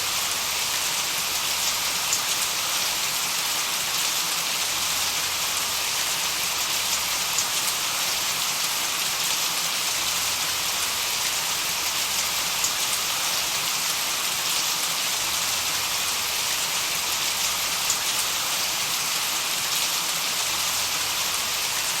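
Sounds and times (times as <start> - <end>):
bright steady hiss: 0.0 - 22.0.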